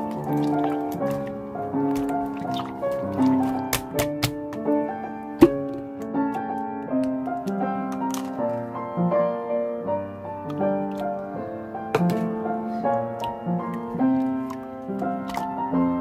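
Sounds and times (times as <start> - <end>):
piano-like keyboard music: 0.0 - 16.0.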